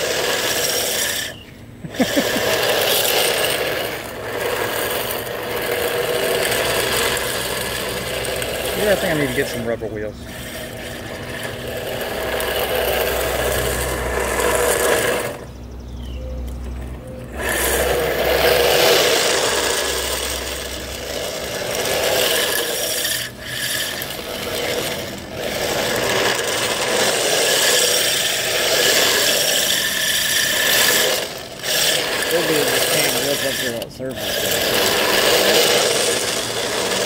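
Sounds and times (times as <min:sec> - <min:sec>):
plastic tyres scraping on asphalt: 0:00.0 - 0:37.0.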